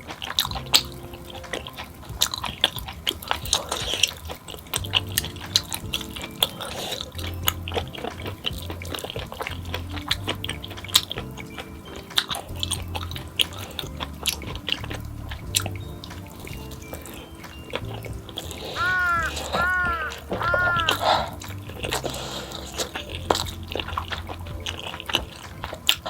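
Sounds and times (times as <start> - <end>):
person chewing wetly: 0.0 - 26.0
soft background music: 0.0 - 26.0.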